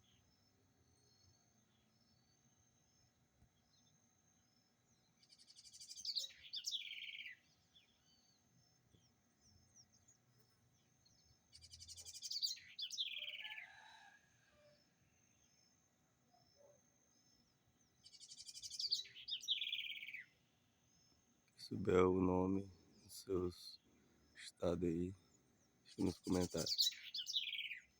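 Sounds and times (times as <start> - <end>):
faint high chirping: 0.0 - 27.9
songbird trilling song: 0.0 - 27.9.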